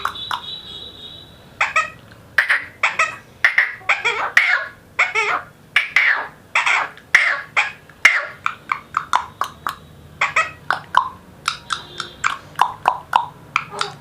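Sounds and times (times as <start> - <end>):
parakeet chattering: 0.0 - 0.6, 1.6 - 14.0.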